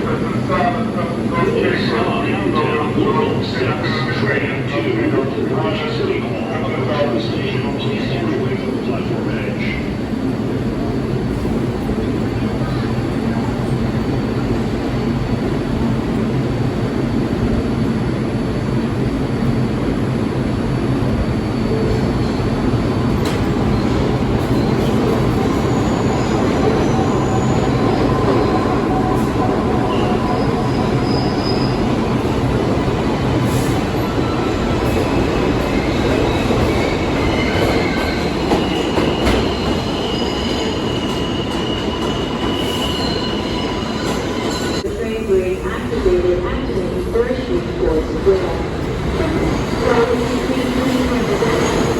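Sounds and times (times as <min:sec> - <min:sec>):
subway train rumbling on track: 0:00.0 - 0:51.9.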